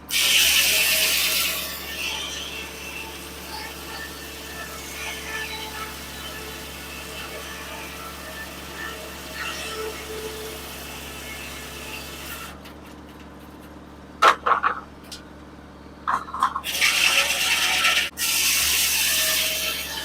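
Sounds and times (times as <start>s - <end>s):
saw blade cutting log: 0.0s - 12.6s, 16.1s - 20.0s
sawmill hum: 0.0s - 20.0s.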